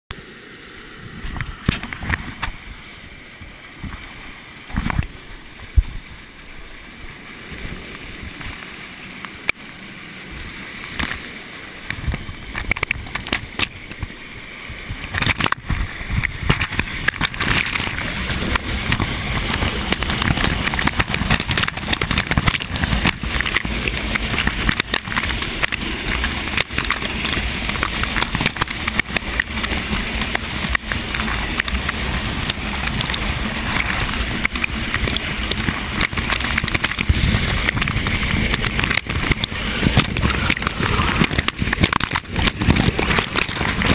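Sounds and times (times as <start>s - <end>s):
waterfall rushing: 0.2s - 43.9s.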